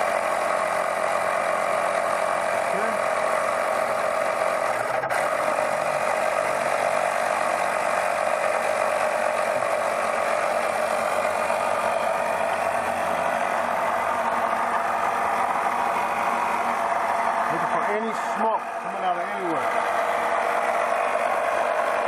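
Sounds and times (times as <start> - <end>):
smoke machine humming: 0.0 - 22.0.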